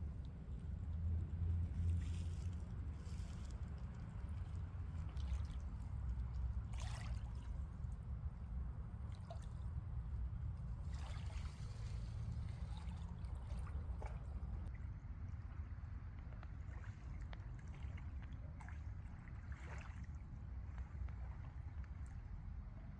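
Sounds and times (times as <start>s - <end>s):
water sloshing and splashing: 0.1s - 14.8s, 16.4s - 22.2s.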